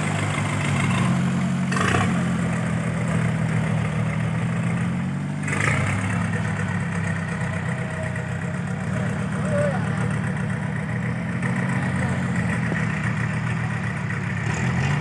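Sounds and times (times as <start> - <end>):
truck engine running at low revs: 0.0 - 15.0.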